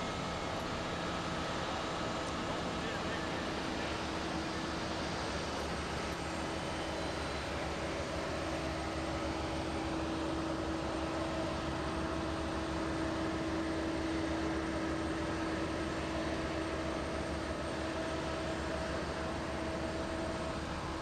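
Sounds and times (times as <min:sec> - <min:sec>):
aircraft engine drone: 0:00.0 - 0:21.0.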